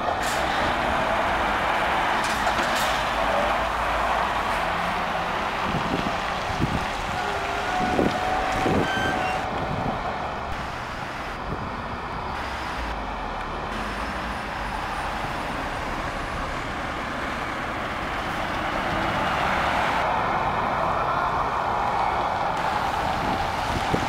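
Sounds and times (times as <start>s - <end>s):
heavy trucks driving past: 0.0s - 24.0s.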